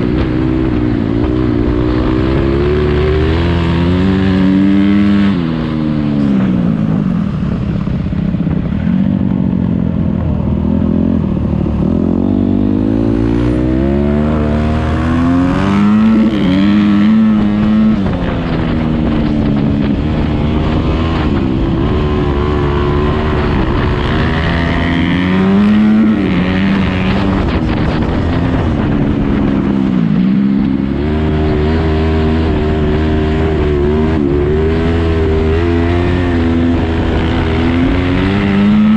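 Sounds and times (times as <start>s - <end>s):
motocross bike engine revving: 0.0s - 6.1s, 10.8s - 29.7s, 30.6s - 38.9s.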